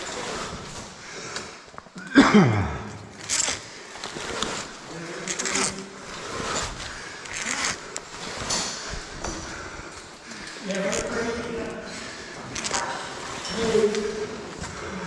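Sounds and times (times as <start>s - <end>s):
gear and clothing rustling: 0.0s - 2.0s, 3.1s - 15.0s.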